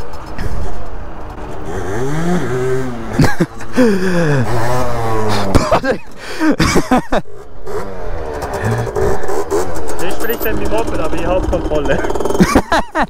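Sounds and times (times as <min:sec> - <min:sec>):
moped engine revving: 0:00.0 - 0:13.0.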